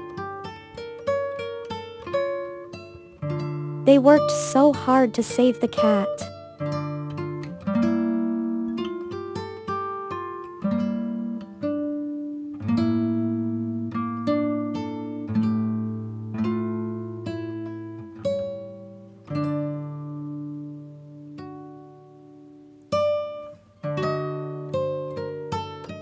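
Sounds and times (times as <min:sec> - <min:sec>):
plucked acoustic guitar: 0:00.0 - 0:26.0.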